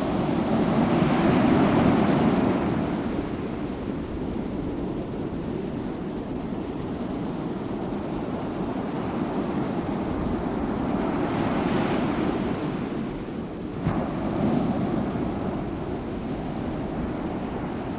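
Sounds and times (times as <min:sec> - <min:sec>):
sea waves washing in: 0:00.0 - 0:17.9.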